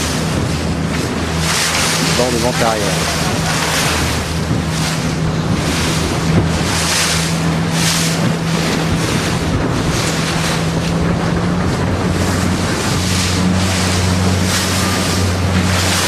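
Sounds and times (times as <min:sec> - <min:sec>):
low engine hum: 0:00.0 - 0:16.0
water rushing past boat: 0:00.0 - 0:16.0
wind buffeting microphone: 0:00.0 - 0:16.0.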